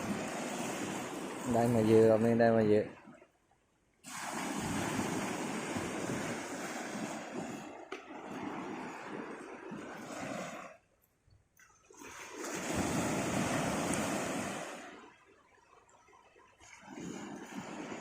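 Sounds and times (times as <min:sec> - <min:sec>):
seawater rushing and splashing: 0:00.0 - 0:03.2, 0:04.0 - 0:10.9, 0:11.8 - 0:15.5, 0:16.2 - 0:18.0.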